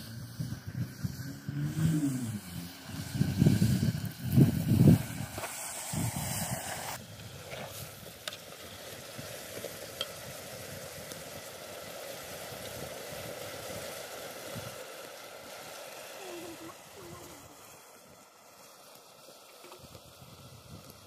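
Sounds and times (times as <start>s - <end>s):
zucchini sizzling in a pot: 0.0s - 21.0s.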